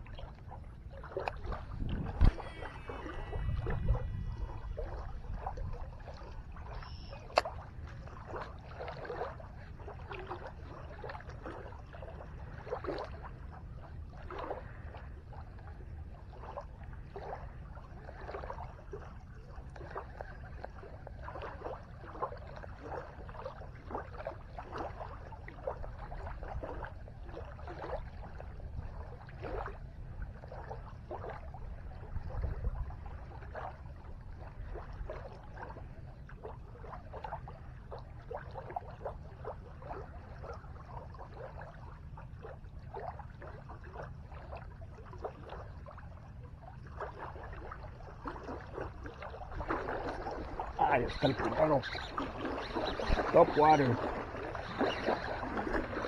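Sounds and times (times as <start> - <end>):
small waves lapping on shore: 0.0 - 56.0
wind rumble on microphone: 0.0 - 56.0.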